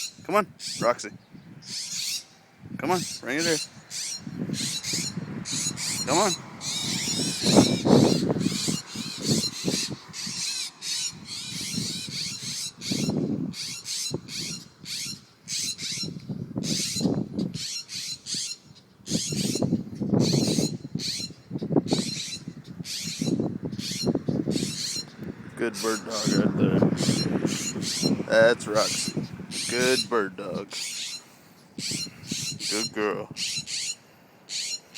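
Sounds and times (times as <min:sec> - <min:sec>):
birds giving harsh alarm calls: 0:00.0 - 0:34.9.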